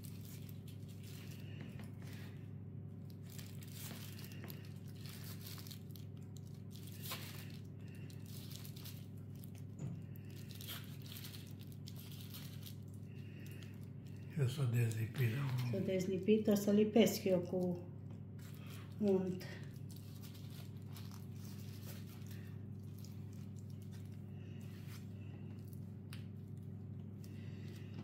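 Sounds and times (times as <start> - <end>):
foil and dough crinkling: 0.0 - 28.0
steady low hum: 0.0 - 28.0.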